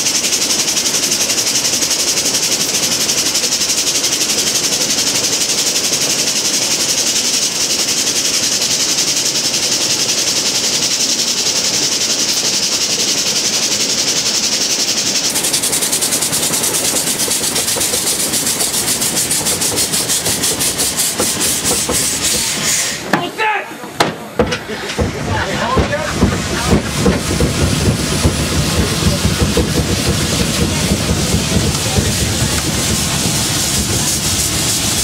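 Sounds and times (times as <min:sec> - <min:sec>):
rapid train clatter: 0:00.0 - 0:35.0
train hissing: 0:00.0 - 0:35.0.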